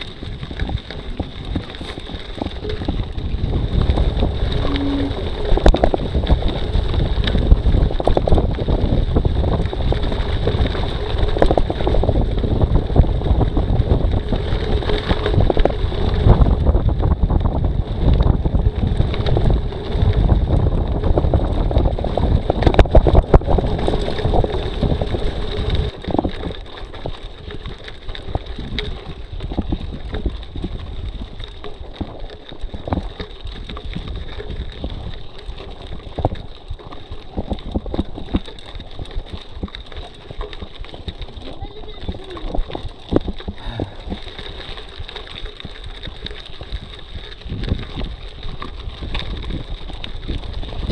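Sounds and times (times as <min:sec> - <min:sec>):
bike rattling clicks: 0:00.0 - 0:50.9
bike tyres rolling on gravel: 0:00.0 - 0:50.9
wind buffeting microphone: 0:00.0 - 0:50.9.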